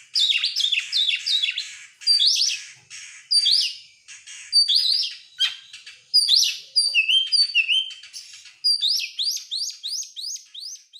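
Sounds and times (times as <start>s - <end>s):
bird singing whistled song: 0.1s - 2.7s, 3.3s - 3.9s, 4.5s - 10.9s.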